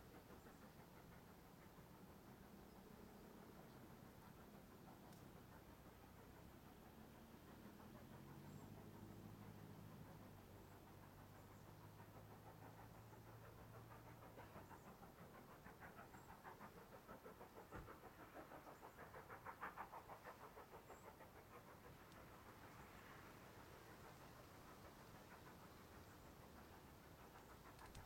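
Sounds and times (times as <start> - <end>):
distant steam locomotive chuffing: 0.0 - 28.0.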